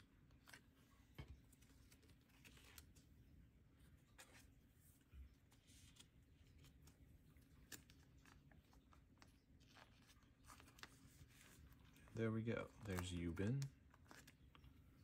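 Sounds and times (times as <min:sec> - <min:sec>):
low steady hum: 0:00.0 - 0:15.0
plastic sleeves crinkling: 0:00.0 - 0:15.0.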